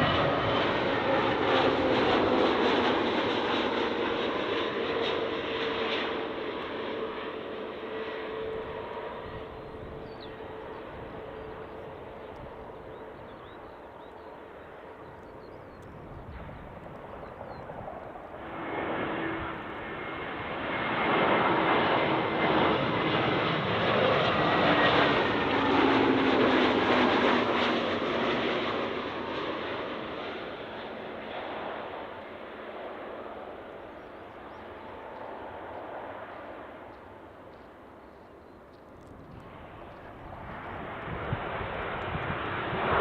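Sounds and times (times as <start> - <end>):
jet airliner passing overhead: 0.0 - 43.0
jet engine whine: 0.0 - 43.0.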